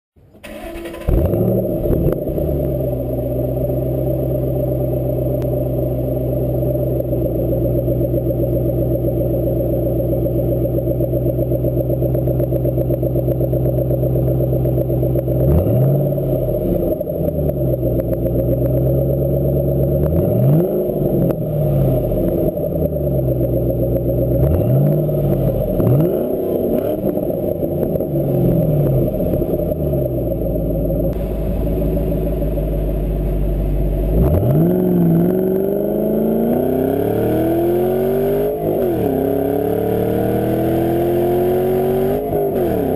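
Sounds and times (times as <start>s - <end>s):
car engine idling and revving: 0.2s - 42.9s.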